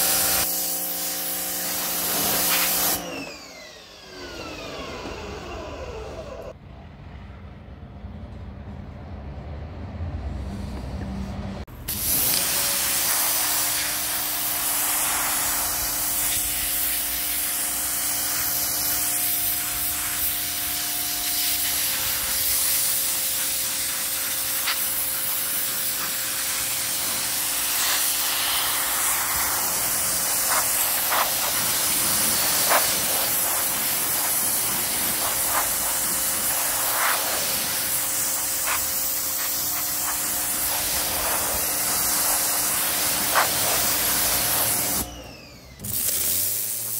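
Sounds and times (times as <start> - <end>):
pressure washer water jet hissing: 0.0 - 3.6, 11.8 - 46.9.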